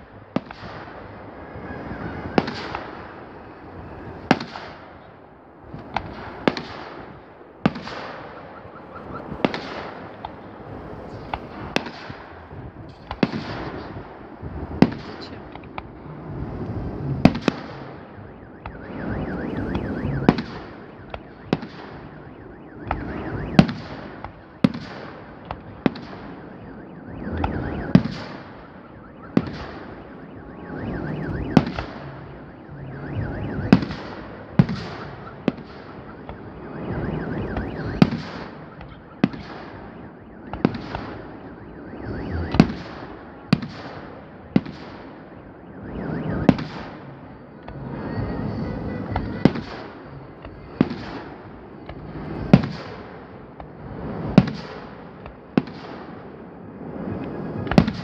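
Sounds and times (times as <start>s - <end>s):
fireworks rumble and crackle: 0.0s - 58.0s.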